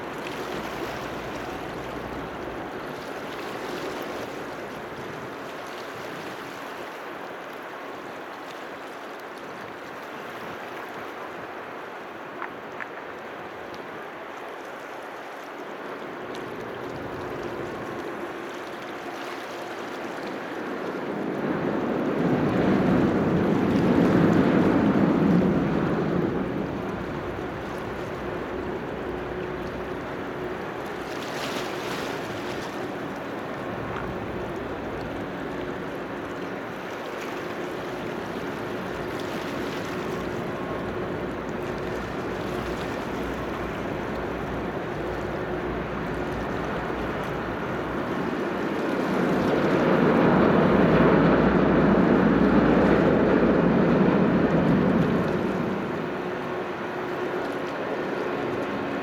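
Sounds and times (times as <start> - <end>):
water noise: 0.0 - 59.0
wind: 0.0 - 59.0
ship engines droning: 9.6 - 59.0.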